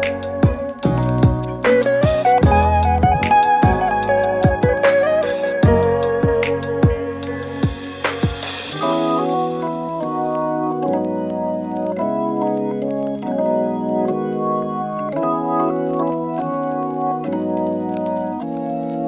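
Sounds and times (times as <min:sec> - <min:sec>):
organ-like keyboard chords: 0:00.0 - 0:19.0.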